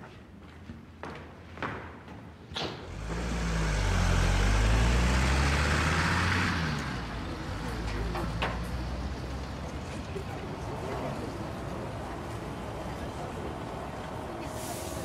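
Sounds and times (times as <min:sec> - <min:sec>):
van driving past: 0:02.9 - 0:15.0.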